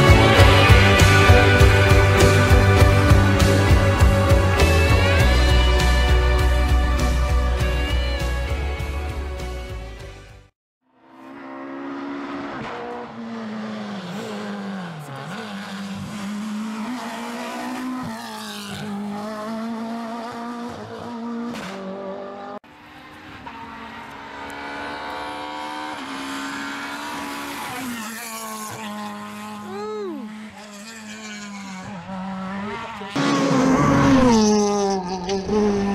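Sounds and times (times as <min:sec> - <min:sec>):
rally car engines revving: 0:00.0 - 0:08.4, 0:11.0 - 0:35.9.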